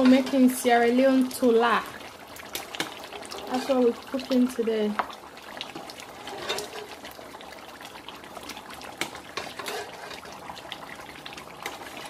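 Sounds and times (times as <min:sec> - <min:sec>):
broth simmering with bubbling pops: 0:00.0 - 0:12.0.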